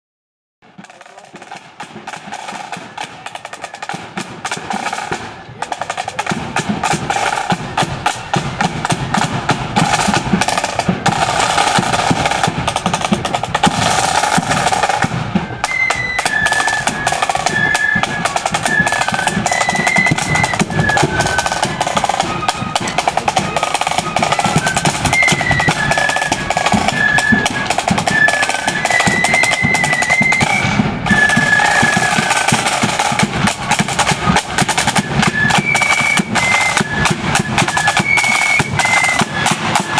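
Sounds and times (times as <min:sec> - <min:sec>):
snare drum rolls: 0:00.6 - 0:39.9
flutes playing high tune: 0:00.8 - 0:39.9.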